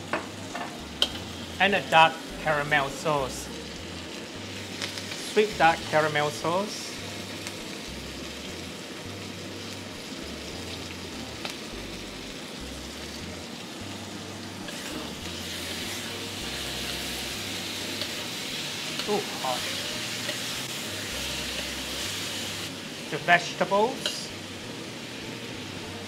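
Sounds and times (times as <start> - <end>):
chicken sizzling in a wok: 0.0 - 26.0.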